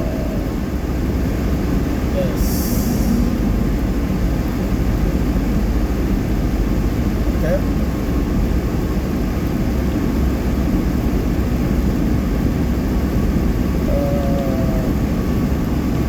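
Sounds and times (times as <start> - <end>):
car engine running: 0.0 - 16.0
tyres on wet road: 0.0 - 16.0.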